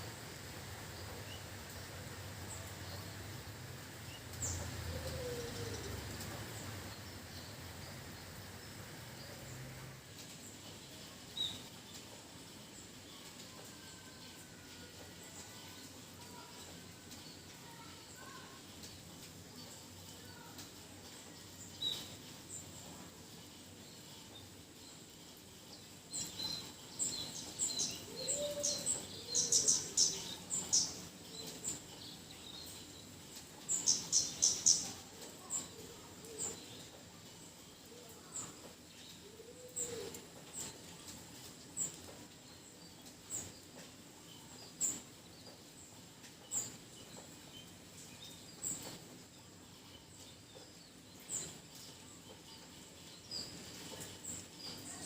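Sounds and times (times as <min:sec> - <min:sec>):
light rain hiss: 0:00.0 - 0:55.0
small birds chirping: 0:00.0 - 0:55.0.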